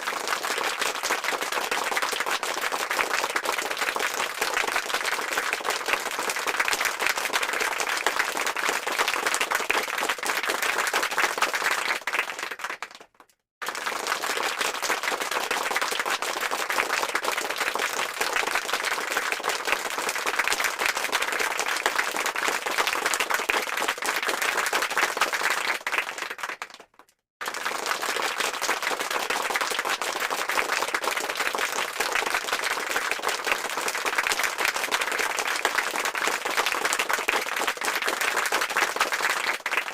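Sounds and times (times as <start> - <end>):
crowd applause: 0.0 - 39.9.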